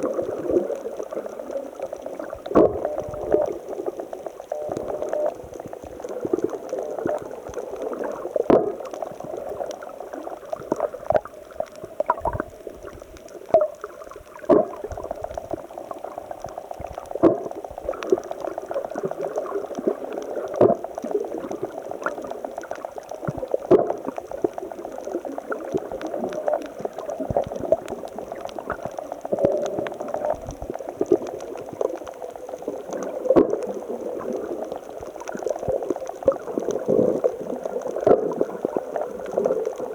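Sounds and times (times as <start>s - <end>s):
small sharp clicks and pops: 0.0s - 39.9s.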